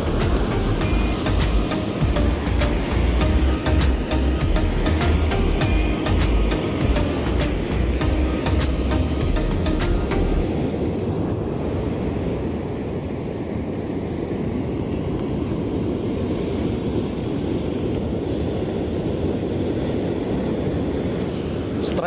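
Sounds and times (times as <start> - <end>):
surf breaking on beach: 0.0 - 22.0
wind on microphone: 0.0 - 22.0.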